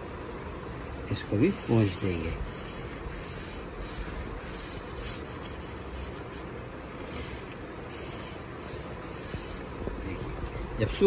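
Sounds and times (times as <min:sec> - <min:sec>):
rag rubbing on wood: 0:00.6 - 0:09.7.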